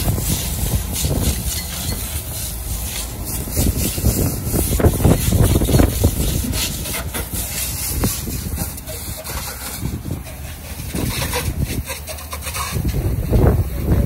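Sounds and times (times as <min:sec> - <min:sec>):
pressure washer spray hissing: 0:00.0 - 0:13.5.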